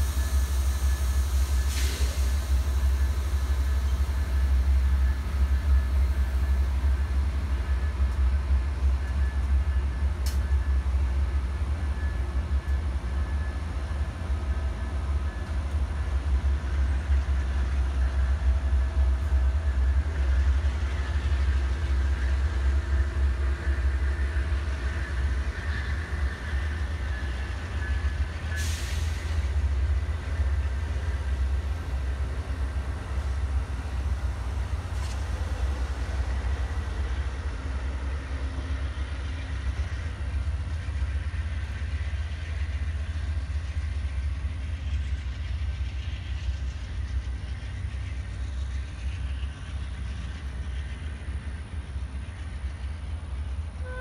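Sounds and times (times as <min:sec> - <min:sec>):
train cars rolling rumble: 0:00.0 - 0:54.0.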